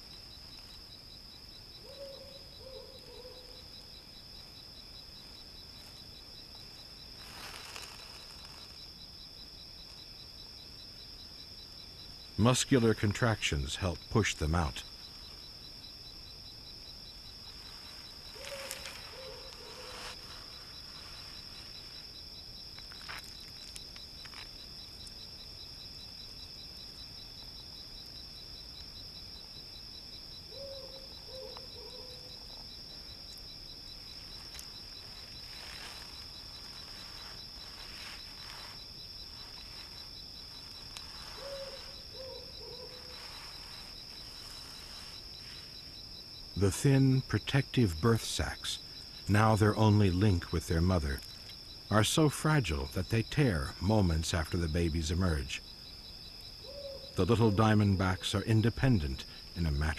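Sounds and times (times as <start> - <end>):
faint ticks and rustles: 0.0 - 59.9
high insect drone: 0.0 - 59.9
pulsing cricket chirp: 0.0 - 59.9.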